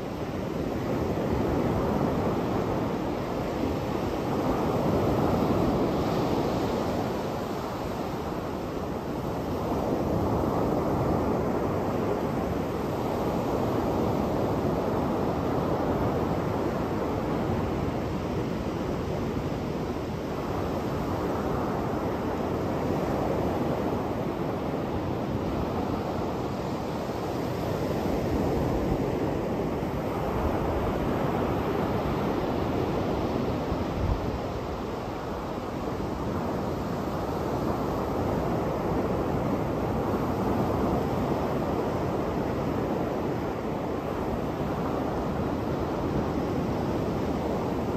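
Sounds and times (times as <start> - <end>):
waves breaking on beach: 0.0 - 47.9.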